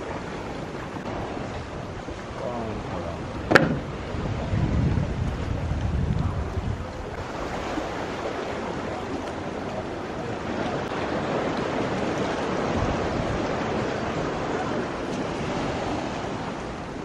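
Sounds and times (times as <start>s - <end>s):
sea water washing at shore: 0.0s - 17.0s
wind buffeting microphone: 0.0s - 17.0s.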